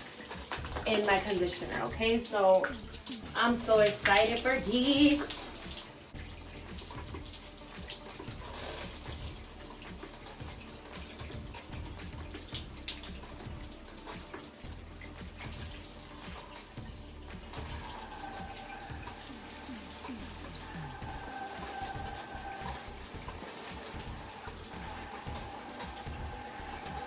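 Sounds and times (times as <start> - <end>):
shower water running: 0.0 - 27.0.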